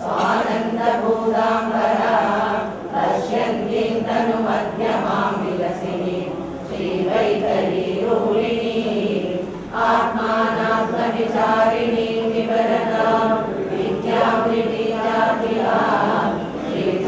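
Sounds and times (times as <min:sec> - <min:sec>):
women chanting a hymn in unison: 0:00.0 - 0:17.0.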